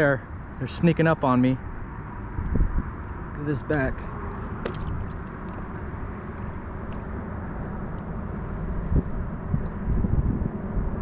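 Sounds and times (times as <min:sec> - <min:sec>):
wind buffeting microphone: 0:01.7 - 0:11.0.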